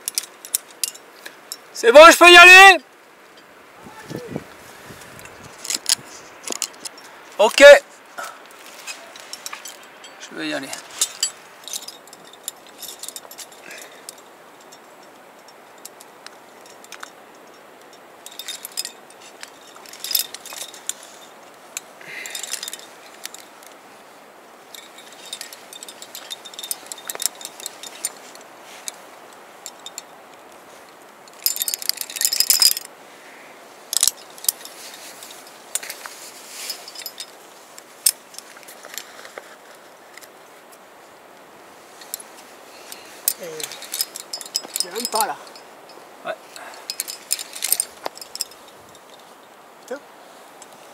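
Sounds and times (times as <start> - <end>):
carabiners jangling and clinking: 0.0 - 2.8, 5.2 - 7.8, 8.7 - 32.9, 33.9 - 40.4, 41.9 - 50.0.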